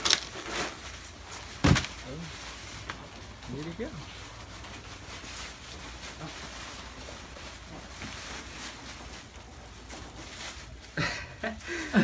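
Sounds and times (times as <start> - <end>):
faint rustles: 0.2 - 12.0.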